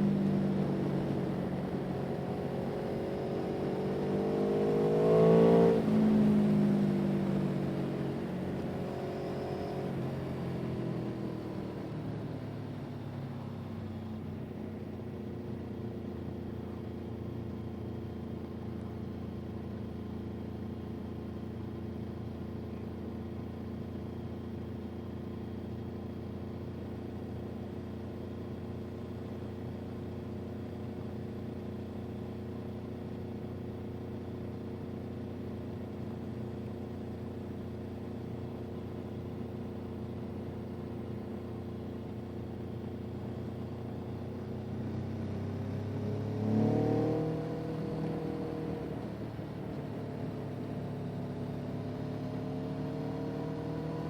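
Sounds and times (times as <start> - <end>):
motor vehicle engine: 0.0 - 54.0.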